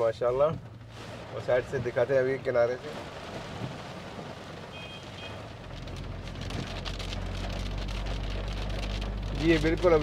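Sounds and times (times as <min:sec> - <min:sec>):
low vehicle hum: 0:00.0 - 0:10.0
rain splashing on flooded street: 0:00.0 - 0:10.0.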